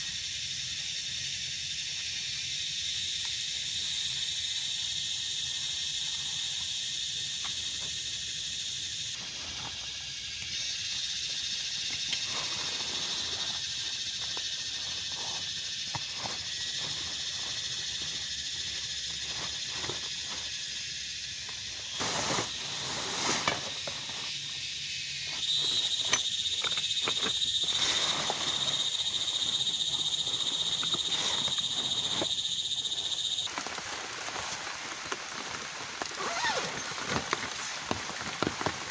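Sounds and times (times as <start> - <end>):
insects or frogs chirring: 0.0 - 38.9.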